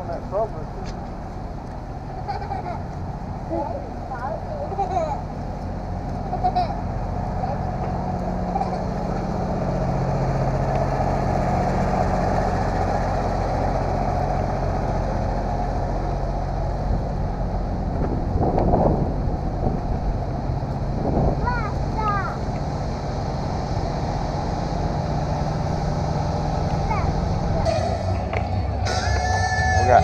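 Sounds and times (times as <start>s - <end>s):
large engine idling: 0.0s - 30.0s.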